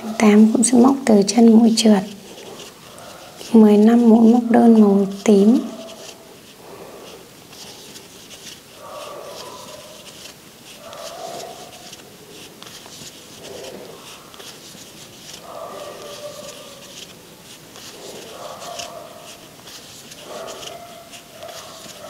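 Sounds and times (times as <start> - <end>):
crochet hook scratching yarn: 0.0 - 22.0.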